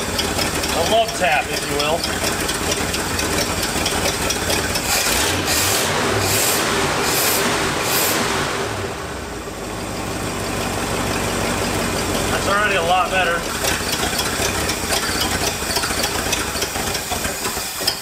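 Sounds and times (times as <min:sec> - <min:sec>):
engine idling rough: 0:00.0 - 0:18.0.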